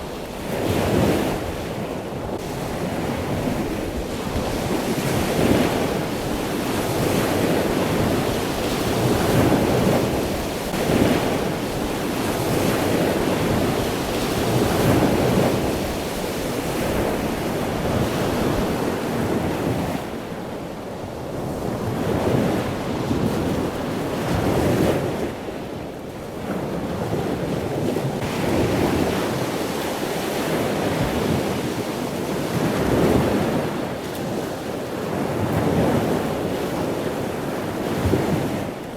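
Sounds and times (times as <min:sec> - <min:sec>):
surf washing onto shore: 0:00.0 - 0:38.9
wind on microphone: 0:00.0 - 0:38.9.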